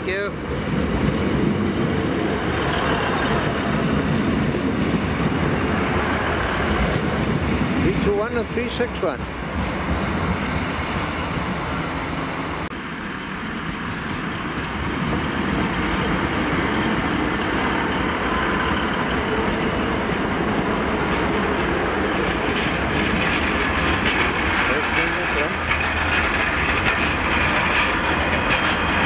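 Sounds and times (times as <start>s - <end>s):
diesel train passing on rails: 0.0s - 29.0s.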